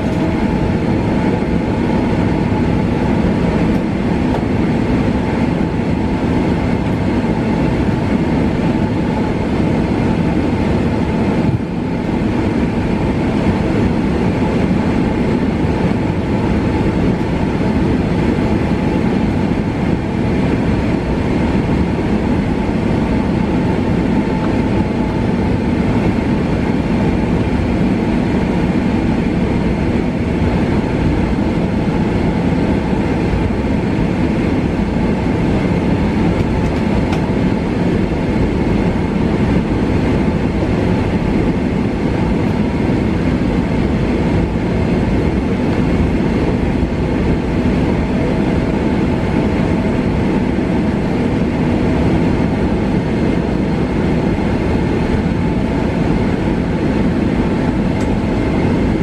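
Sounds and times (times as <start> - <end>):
jet engine rumble in cabin: 0.0 - 59.0.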